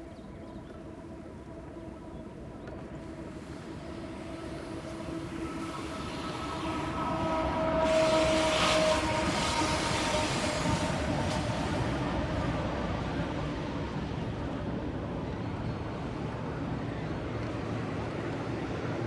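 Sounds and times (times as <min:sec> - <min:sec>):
train passing: 0:02.8 - 0:19.0.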